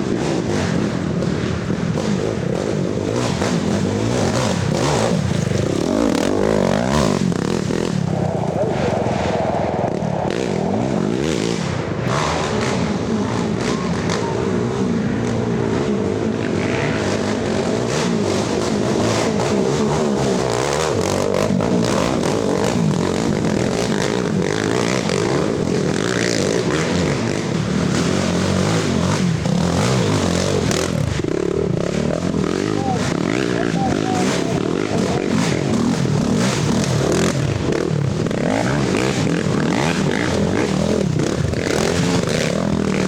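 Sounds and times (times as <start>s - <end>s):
quad engines revving: 0.0s - 43.0s.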